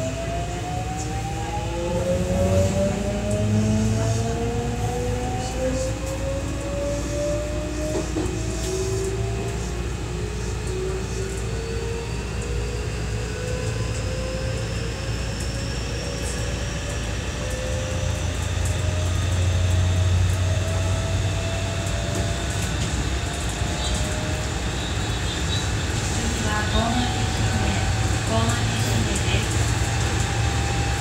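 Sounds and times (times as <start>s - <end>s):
traction motor whine rising: 0.0s - 28.9s, 29.5s - 31.0s
wheels rumbling on rail: 0.0s - 31.0s.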